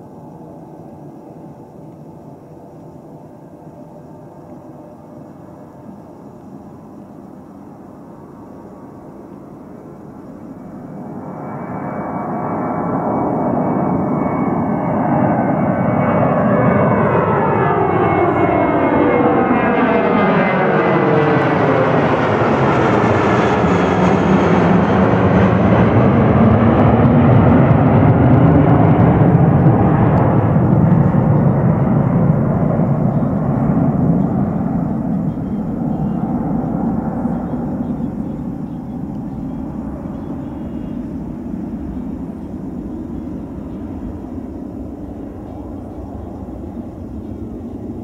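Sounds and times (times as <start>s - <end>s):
jet airliner passing overhead: 0.0s - 48.0s.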